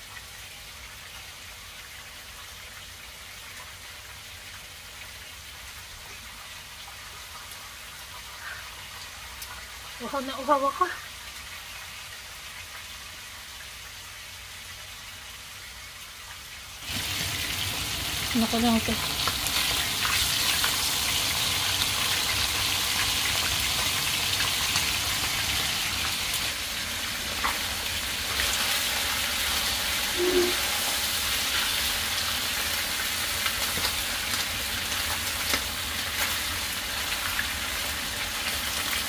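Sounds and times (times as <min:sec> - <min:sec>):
chicken sizzling in a pan: 0:00.0 - 0:39.0
fish frying in oil: 0:00.0 - 0:39.0.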